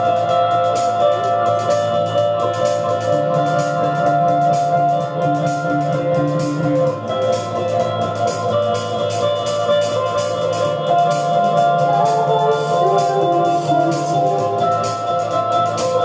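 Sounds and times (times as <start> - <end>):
melody over chords: 0.0 - 16.0
rock band playing loudly: 0.0 - 16.0.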